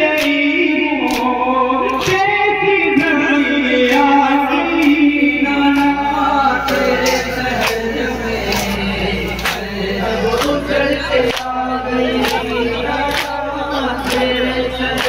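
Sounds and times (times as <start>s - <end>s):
mournful lament singing: 0.0s - 15.0s.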